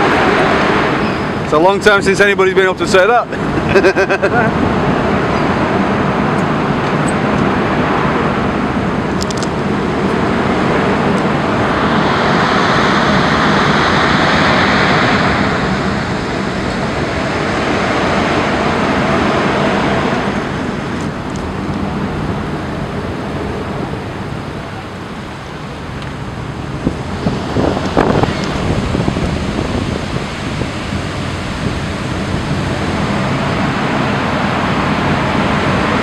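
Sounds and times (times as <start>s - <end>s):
water rushing and churning: 0.0s - 36.0s.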